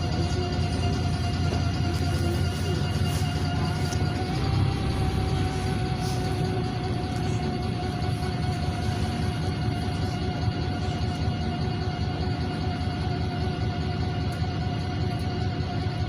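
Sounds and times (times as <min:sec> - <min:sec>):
high whine: 0:00.0 - 0:13.9
bus engine low rumble: 0:00.0 - 0:16.0.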